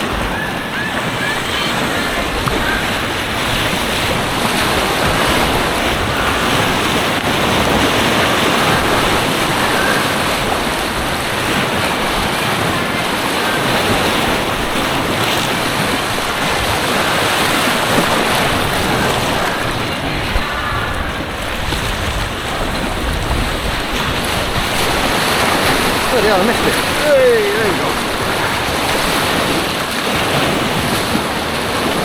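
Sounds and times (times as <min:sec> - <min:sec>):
white water rushing: 0:00.0 - 0:32.0.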